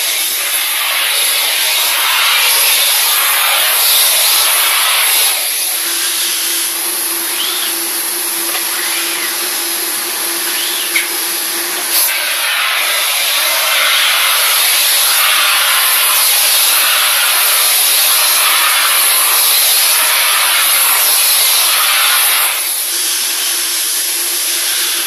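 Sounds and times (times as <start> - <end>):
steam cleaner hissing: 0.0 - 25.0.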